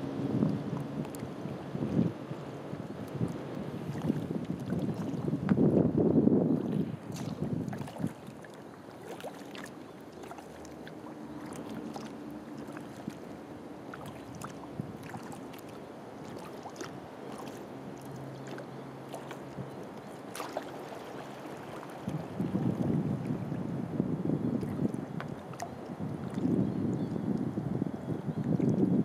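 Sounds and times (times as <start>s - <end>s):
water lapping against hull: 0.0s - 29.0s
paddle splashes and drips: 0.4s - 5.7s, 6.6s - 23.7s, 24.5s - 27.6s.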